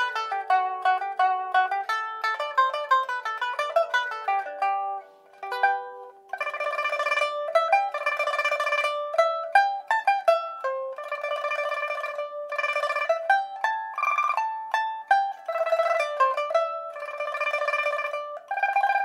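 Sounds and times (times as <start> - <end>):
pipa melody with tremolo picking: 0.0 - 19.0.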